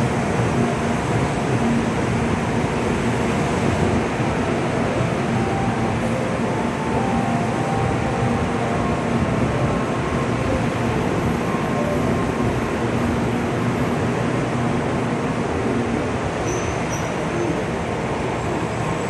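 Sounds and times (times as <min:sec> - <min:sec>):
train rumble and rush: 0:00.0 - 0:19.0.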